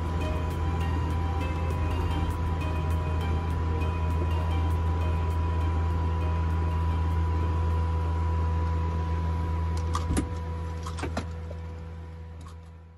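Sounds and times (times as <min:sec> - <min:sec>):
helicopter drone: 0:00.0 - 0:12.6.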